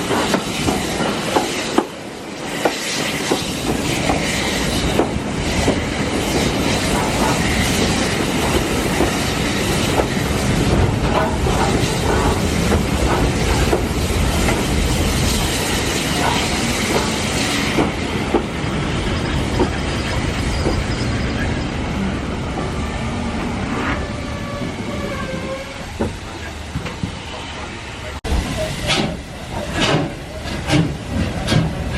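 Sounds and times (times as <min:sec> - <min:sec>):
train rumbling on track: 0:00.0 - 0:31.9.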